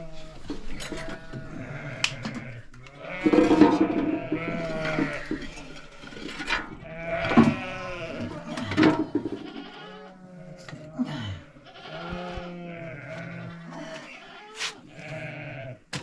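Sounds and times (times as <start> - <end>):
sheep and goats bleating: 0.0 - 15.9.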